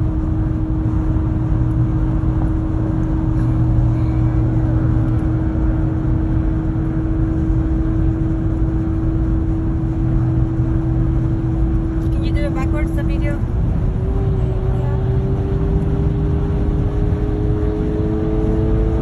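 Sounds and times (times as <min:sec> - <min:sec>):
car road and engine drone: 0:00.0 - 0:19.0
constant low hum: 0:00.0 - 0:19.0.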